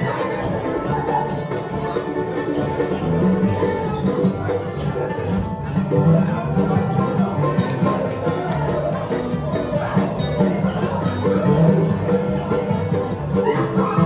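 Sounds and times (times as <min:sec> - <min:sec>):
bluegrass band instrumental: 0:00.0 - 0:14.0.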